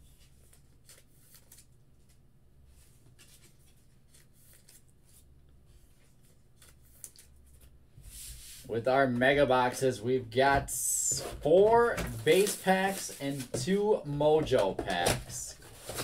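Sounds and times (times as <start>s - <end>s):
trading cards rustling and scraping: 0.0s - 10.0s, 10.9s - 16.0s.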